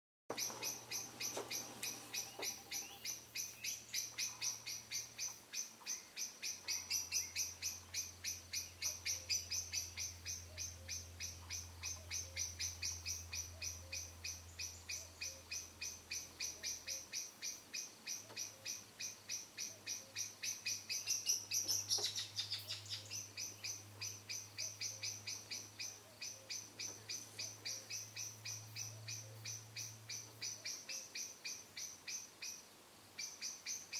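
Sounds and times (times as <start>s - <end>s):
bird chirping rapidly: 0.3s - 33.9s.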